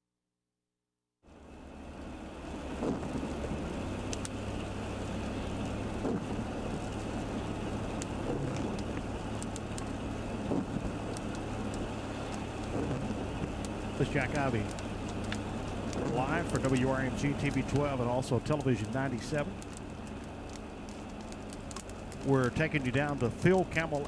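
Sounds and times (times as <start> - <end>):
engine and tyre hum: 1.2 - 24.0
raindrops ticking on windshield: 1.3 - 24.0.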